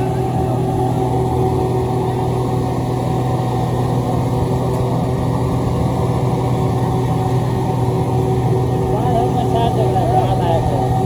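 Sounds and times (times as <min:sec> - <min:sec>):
construction machine engine running: 0:00.0 - 0:11.0.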